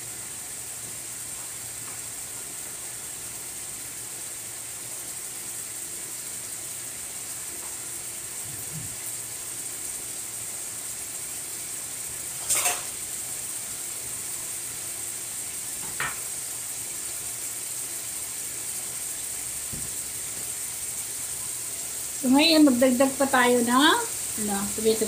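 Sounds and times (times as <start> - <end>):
sauce sizzling in pot: 0.0 - 25.0.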